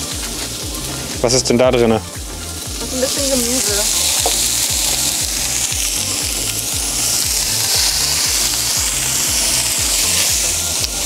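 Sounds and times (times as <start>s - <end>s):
background music with low beat: 0.0s - 11.0s
meat sizzling on grill: 0.0s - 11.0s.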